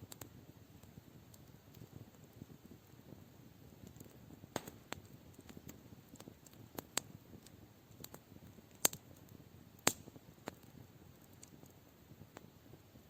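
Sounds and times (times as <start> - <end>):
campfire crackling: 0.0 - 13.0
soft low hiss: 0.0 - 13.0.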